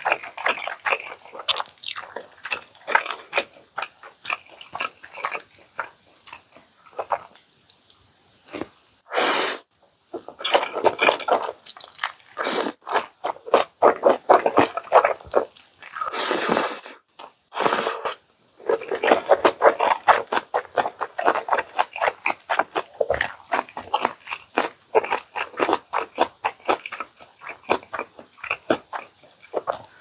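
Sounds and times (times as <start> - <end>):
person chewing crunchy food: 0.0 - 7.8, 8.4 - 30.0.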